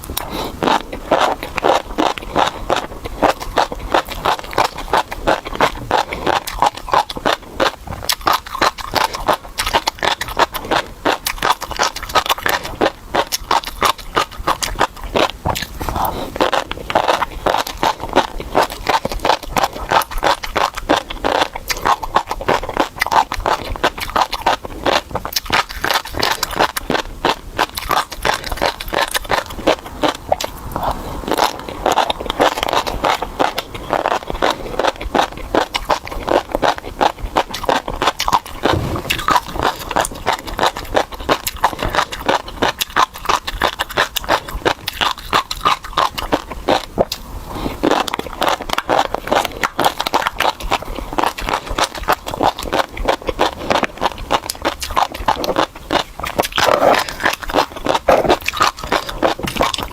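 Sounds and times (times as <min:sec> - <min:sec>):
fish roe crunching while chewing: 0:00.0 - 0:59.9.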